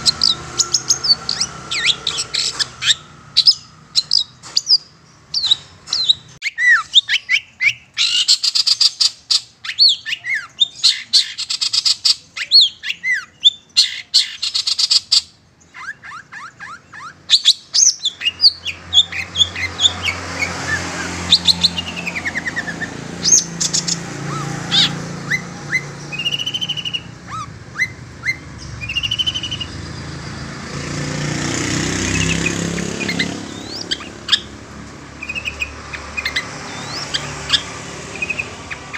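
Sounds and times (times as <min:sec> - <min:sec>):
bird chirps and harsh chatter: 0:00.0 - 0:38.9.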